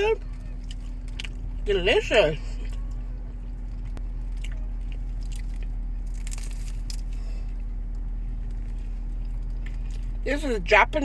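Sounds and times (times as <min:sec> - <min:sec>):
car interior hum: 0:00.0 - 0:11.0
chewing crunchy food: 0:00.2 - 0:10.2.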